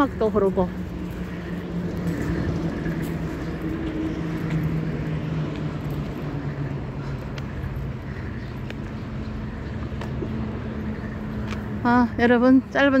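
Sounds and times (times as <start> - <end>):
busy road traffic rumble: 0.0 - 13.0.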